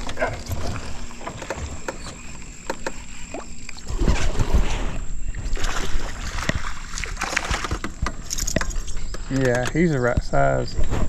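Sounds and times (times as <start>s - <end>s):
knocks and clatter in a boat: 0.0s - 11.0s
low rumble of movement: 0.0s - 11.0s.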